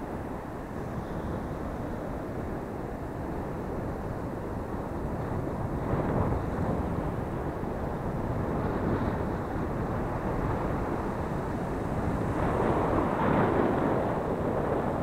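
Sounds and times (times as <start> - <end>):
surf washing up a beach: 0.0 - 15.0
wind rumbling on microphone: 0.0 - 15.0.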